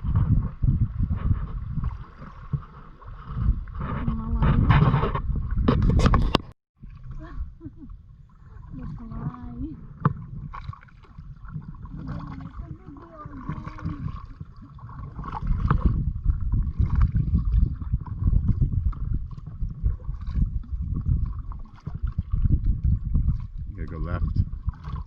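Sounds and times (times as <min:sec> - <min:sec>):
water splashing around kayak: 0:00.0 - 0:25.0.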